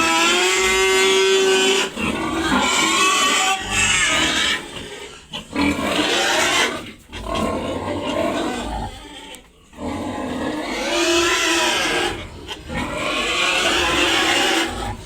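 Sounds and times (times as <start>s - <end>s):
pigs squealing: 0.0s - 15.0s.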